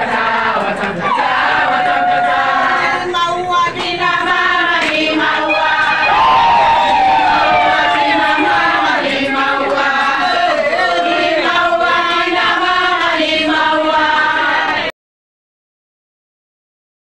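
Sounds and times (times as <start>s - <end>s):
women singing in chorus: 0.0s - 14.9s.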